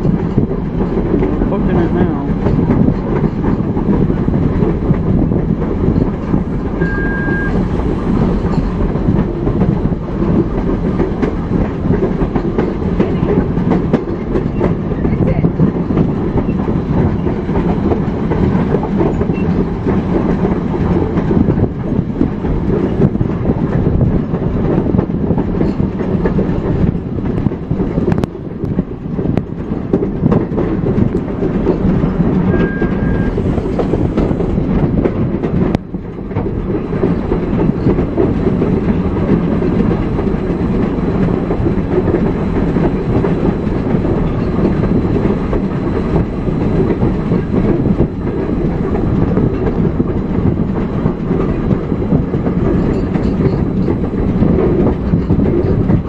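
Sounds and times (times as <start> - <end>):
steam train rumbling: 0.0 - 56.0
wheels rattling: 0.0 - 56.0.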